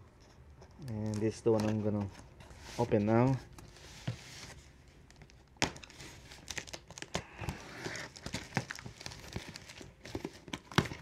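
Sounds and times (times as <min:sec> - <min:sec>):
tape and cardboard rustling: 0:00.2 - 0:11.0.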